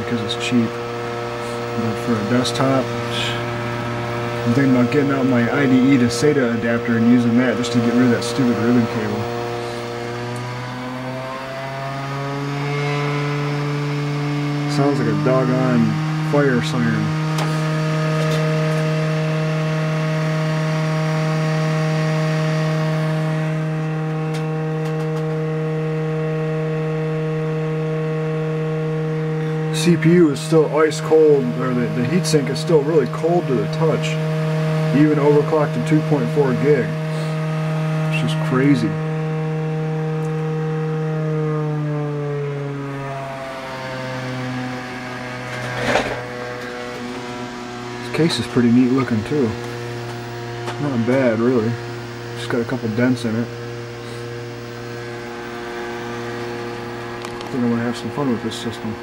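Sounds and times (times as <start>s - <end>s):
disc drive spinning with whine: 0.0s - 59.0s.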